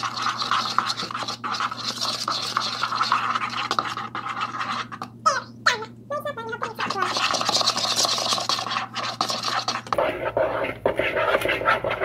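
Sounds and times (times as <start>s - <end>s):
fork beating batter in bowl: 0.0s - 5.2s, 6.6s - 12.0s.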